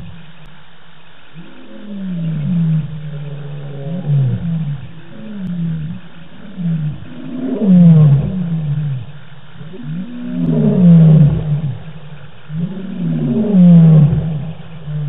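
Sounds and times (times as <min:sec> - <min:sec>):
lion roaring: 0:01.4 - 0:15.0.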